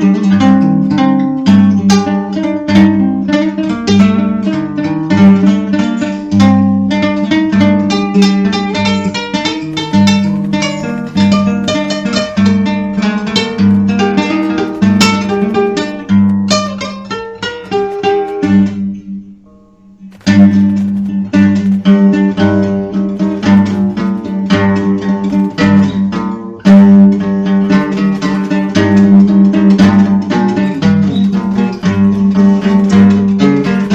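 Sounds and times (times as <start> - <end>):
plucked acoustic guitar: 0.0 - 33.9.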